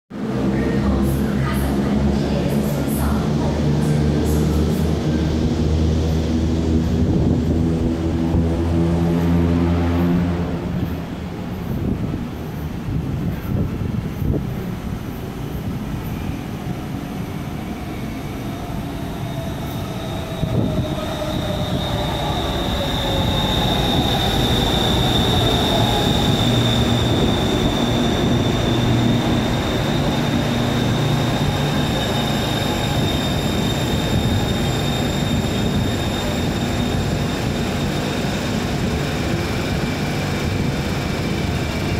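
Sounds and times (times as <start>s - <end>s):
high steady train whine: 0.1s - 41.9s
low train hum: 0.1s - 41.9s
train wheels rumbling on rail: 0.1s - 41.9s.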